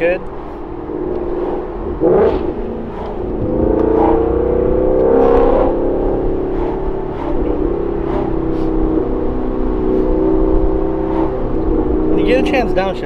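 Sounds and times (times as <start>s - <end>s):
car engine droning inside cabin: 0.0s - 13.0s.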